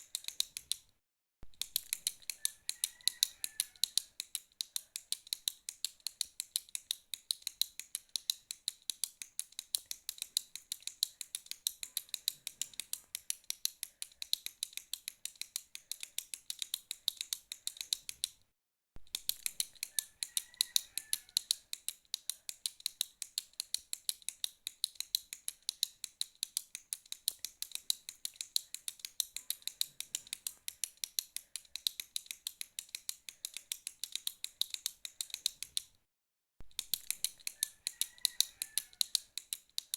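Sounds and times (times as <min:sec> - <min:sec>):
retractable pen clicking: 0:00.0 - 0:00.9, 0:01.5 - 0:18.4, 0:19.0 - 0:36.0, 0:36.7 - 0:39.9.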